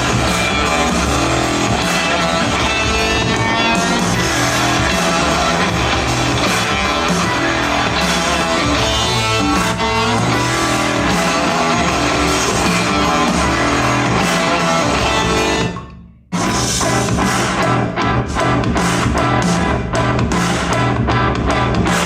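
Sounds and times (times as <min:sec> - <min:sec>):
rock music through speaker: 0:00.0 - 0:22.0.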